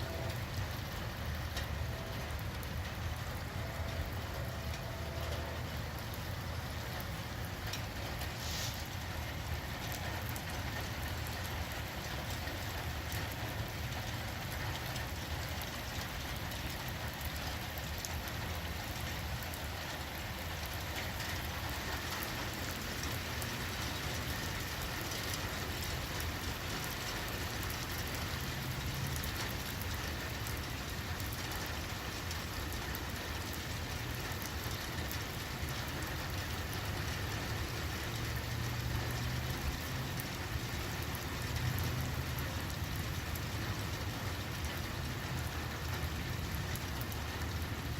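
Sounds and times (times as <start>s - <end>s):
rain pattering: 0.0s - 47.9s.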